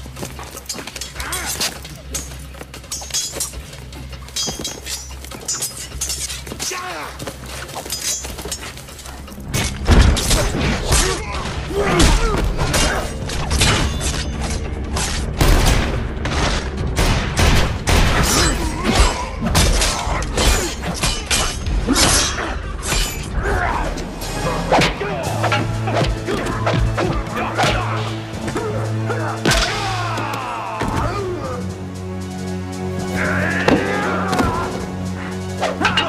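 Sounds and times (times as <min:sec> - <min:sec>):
film music score: 0:00.0 - 0:36.0.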